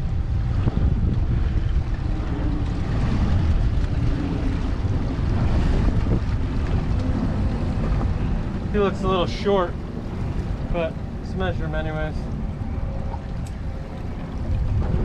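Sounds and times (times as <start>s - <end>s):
ocean wash: 0.0s - 15.0s
wind buffeting microphone: 0.0s - 15.0s.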